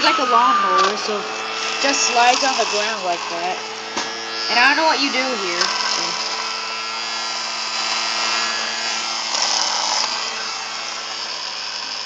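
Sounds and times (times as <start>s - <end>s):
toy fan motor whirring: 0.0s - 12.0s.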